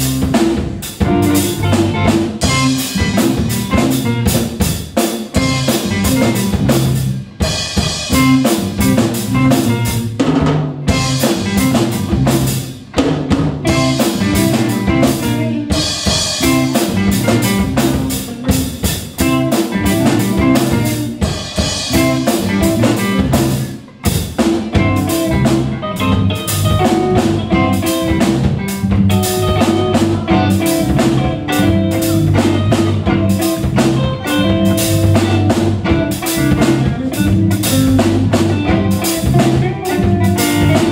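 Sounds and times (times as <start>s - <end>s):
bass guitar: 0.0s - 40.9s
drum kit beat: 0.0s - 40.9s
electric guitars: 0.0s - 40.9s.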